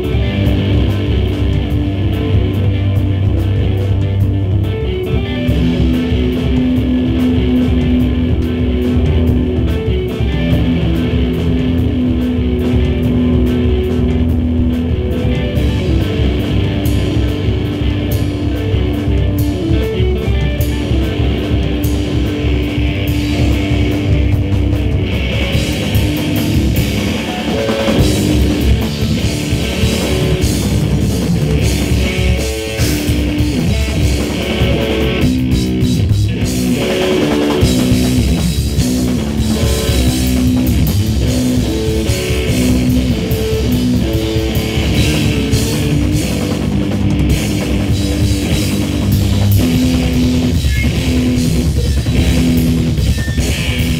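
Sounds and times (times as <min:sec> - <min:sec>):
drum kit with busy cymbals: 0:00.0 - 0:53.9
electric guitar note patterns: 0:00.0 - 0:53.9.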